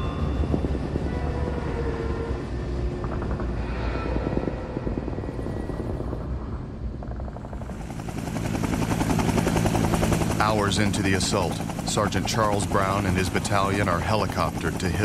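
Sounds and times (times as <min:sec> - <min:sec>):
helicopter rotor beating: 0:00.0 - 0:15.0.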